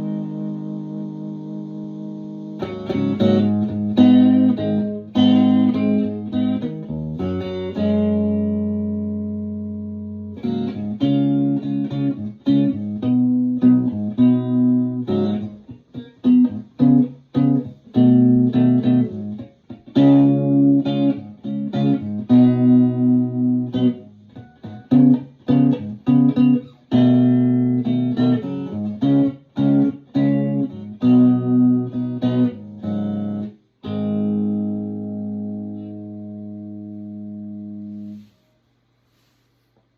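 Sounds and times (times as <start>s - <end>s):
electric guitar arpeggios: 0.0s - 38.1s.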